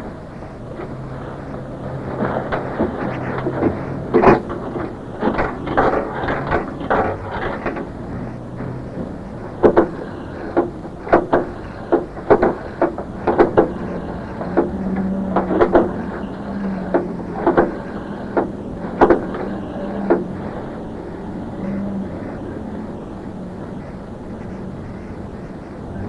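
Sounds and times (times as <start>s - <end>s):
low steady hum: 0.0s - 26.0s
sharp irregular knocks: 0.7s - 26.0s.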